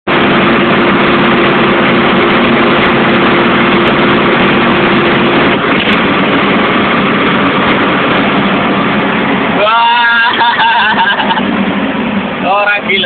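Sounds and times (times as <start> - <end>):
diesel truck engine running: 0.1 - 13.0
steady whine: 0.1 - 13.0.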